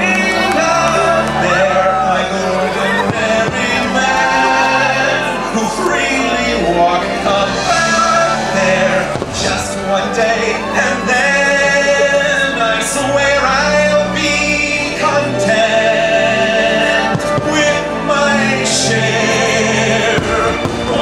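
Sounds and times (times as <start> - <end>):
soundtrack music with singing voices: 0.0 - 21.0.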